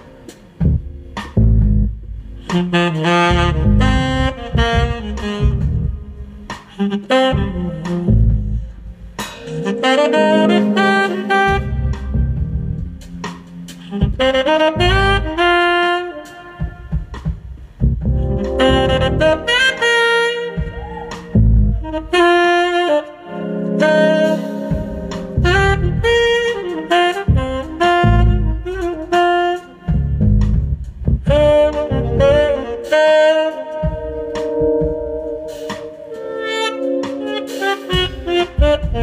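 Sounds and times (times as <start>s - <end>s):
jazz band playing: 0.0s - 39.0s
tenor saxophone jazz solo: 0.0s - 39.0s.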